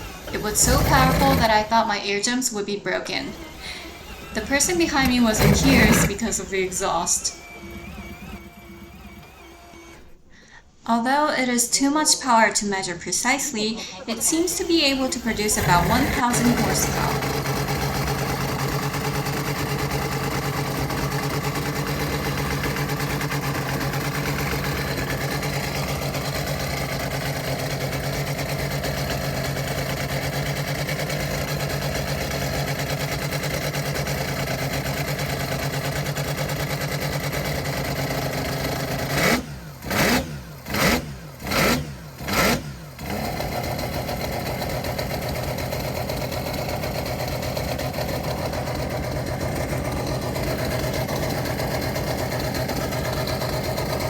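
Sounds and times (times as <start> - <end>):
rotary engine idling: 0.0 - 2.0, 3.2 - 10.2, 14.0 - 54.0
engine throttle blips: 0.0 - 10.6, 11.8 - 54.0.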